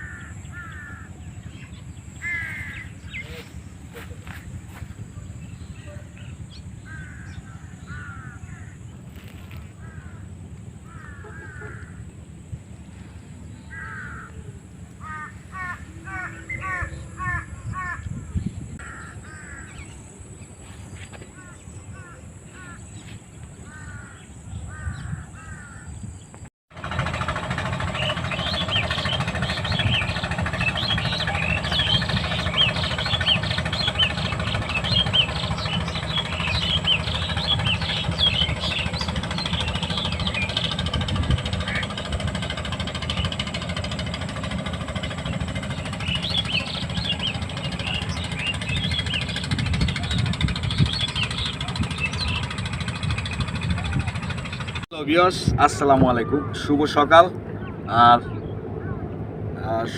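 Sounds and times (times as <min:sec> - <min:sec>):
birds calling: 0:00.0 - 0:59.9
dense bird chirping: 0:00.0 - 0:59.9
low steady rumble: 0:00.0 - 0:59.9.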